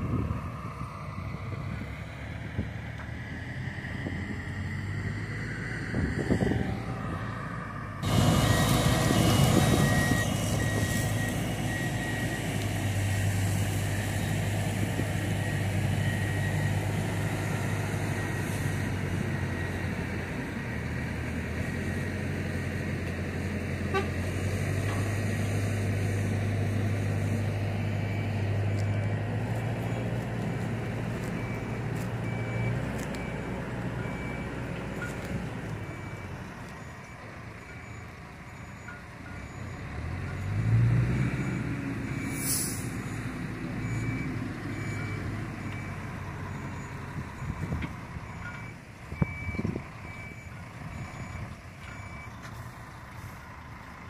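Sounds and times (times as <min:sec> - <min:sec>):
diesel truck engine running: 0:00.0 - 0:54.0
reversing alarm beeping: 0:05.2 - 0:20.1, 0:24.8 - 0:53.6.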